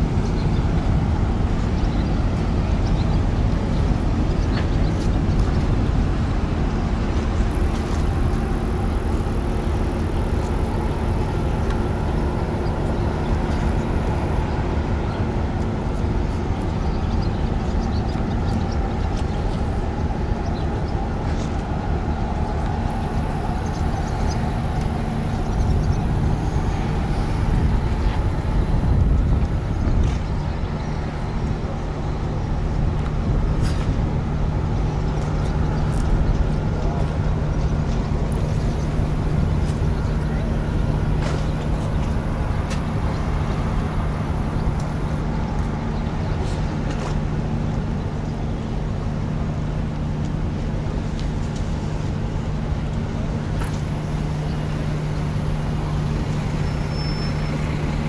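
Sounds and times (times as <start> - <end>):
large engine droning: 0.0 - 58.0
rough low rumble: 0.0 - 58.0.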